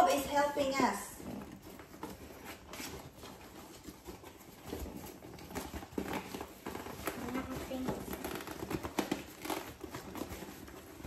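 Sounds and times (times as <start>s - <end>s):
fingers scratching cardboard box: 0.0s - 11.0s.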